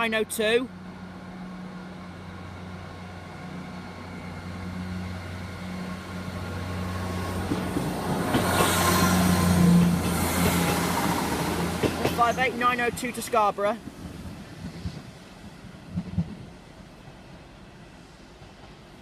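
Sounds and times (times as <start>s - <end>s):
diesel train engine humming: 0.0s - 19.0s
wheel and rail noise: 0.4s - 19.0s.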